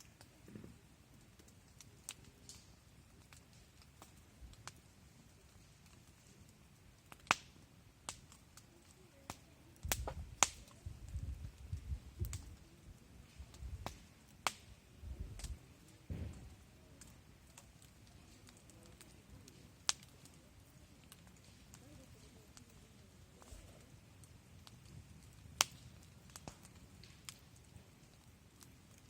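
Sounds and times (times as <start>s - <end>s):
burning wood popping: 0.0s - 29.0s
wood fire crackling: 0.0s - 29.0s.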